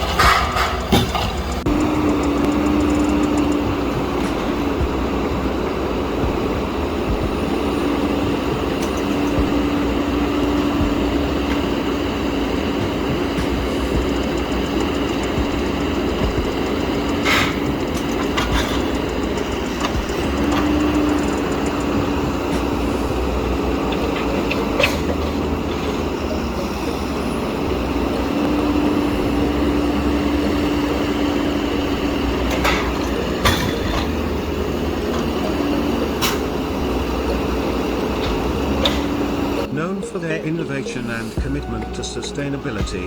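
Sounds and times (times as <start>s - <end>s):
heavy machine humming: 0.0s - 43.0s.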